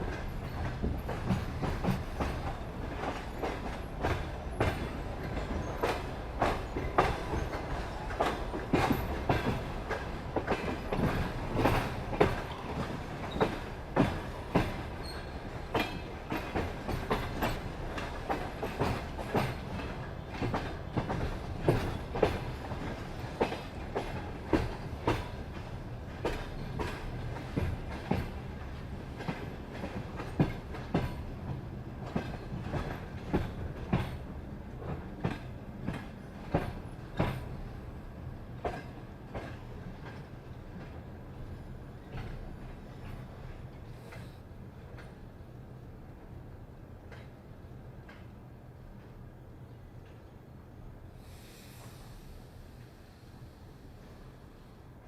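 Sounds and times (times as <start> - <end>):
railway wheels clattering: 0.0 - 52.9.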